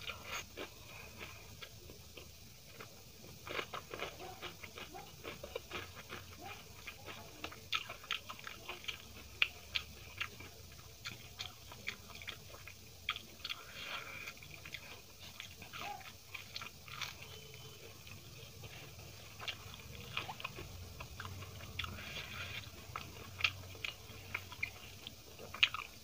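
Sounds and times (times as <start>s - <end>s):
wet chewing clicks and smacks: 1.6s - 18.5s, 19.2s - 26.0s.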